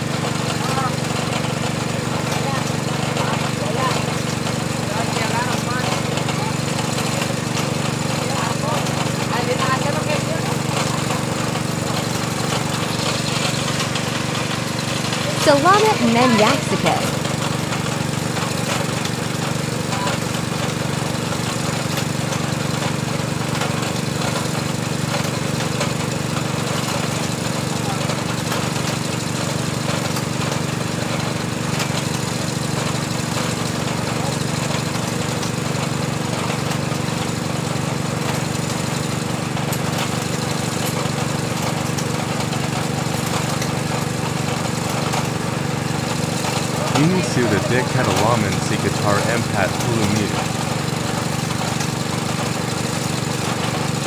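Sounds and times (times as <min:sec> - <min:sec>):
drilling machine engine running: 0:00.0 - 0:49.0, 0:49.7 - 0:54.0.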